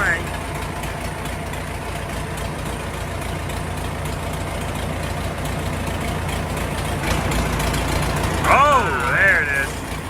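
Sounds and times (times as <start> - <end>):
diesel tractor engine idling: 0.0 - 10.0.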